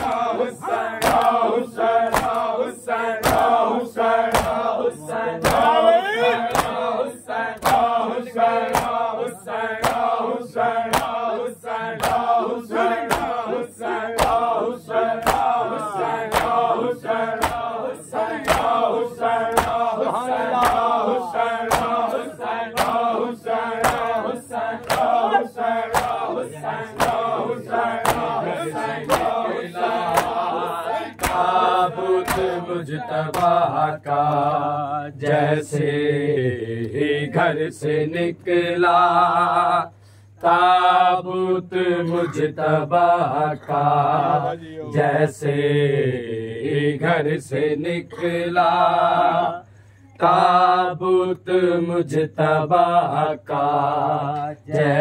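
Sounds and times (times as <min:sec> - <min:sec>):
group chanting in chorus: 0:00.0 - 0:55.0.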